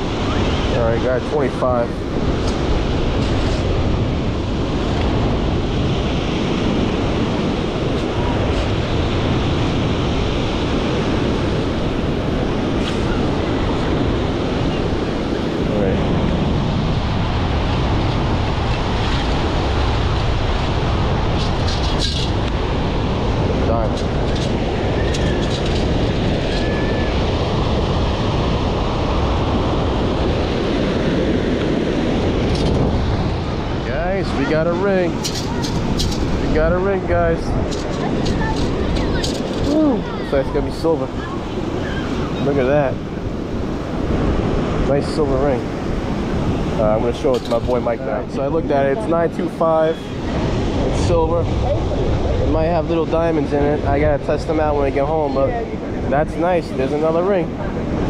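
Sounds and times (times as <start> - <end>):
surf washing: 0.0 - 58.0
wind buffeting microphone: 0.0 - 58.0.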